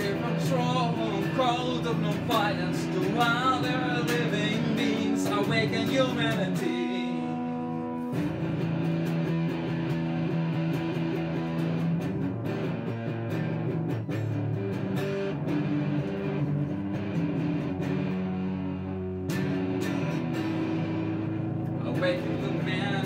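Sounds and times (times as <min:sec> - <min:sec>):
electric guitar strummed chords: 0:00.0 - 0:23.0.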